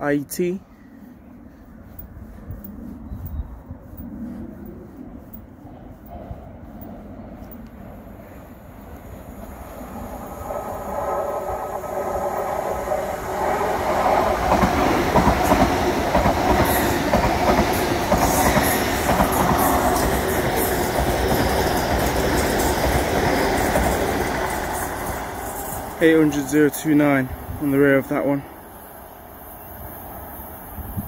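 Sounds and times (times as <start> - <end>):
train passing at speed: 0.1 - 31.0
wheel and rail noise: 0.2 - 31.0.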